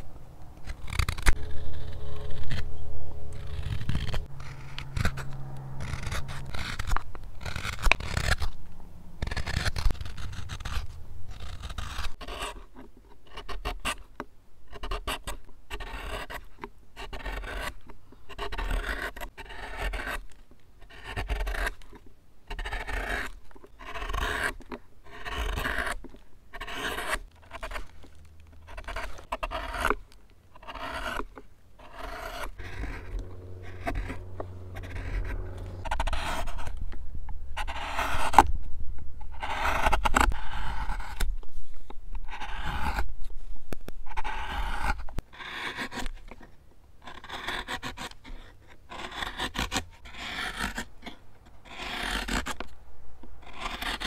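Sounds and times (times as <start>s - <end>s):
carving tools scraping wood: 0.6s - 8.6s, 9.2s - 36.9s, 37.6s - 38.5s, 39.2s - 52.8s, 53.4s - 54.0s.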